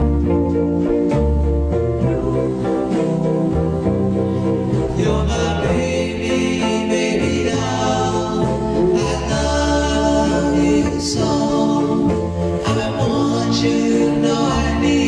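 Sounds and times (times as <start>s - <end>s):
bass line: 0.0s - 15.0s
vocal group singing harmony: 0.0s - 15.0s.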